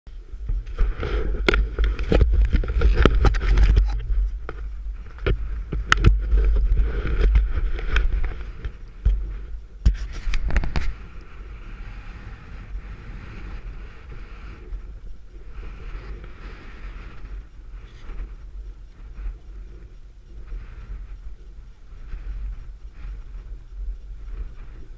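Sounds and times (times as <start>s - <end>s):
wind buffeting microphone: 0.1s - 24.9s
skis sliding over snow: 0.2s - 24.9s.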